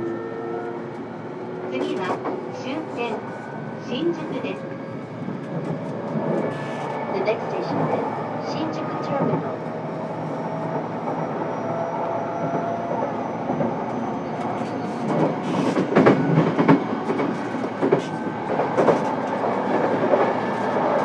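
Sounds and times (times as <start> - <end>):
train rolling noise: 0.0 - 21.0.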